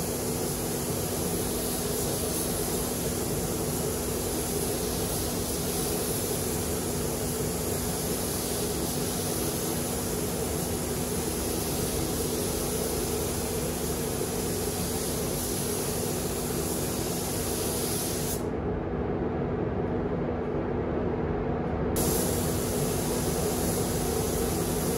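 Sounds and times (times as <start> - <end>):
paint spray gun hissing: 0.0 - 18.4, 22.0 - 24.9.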